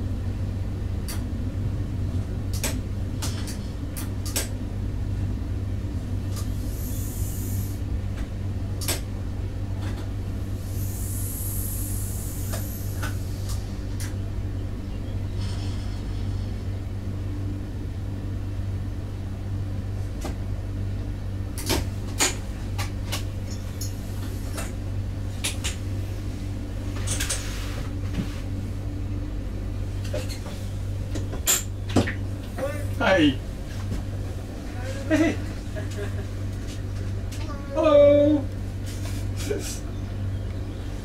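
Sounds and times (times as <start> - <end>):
train drive droning: 0.0 - 41.0.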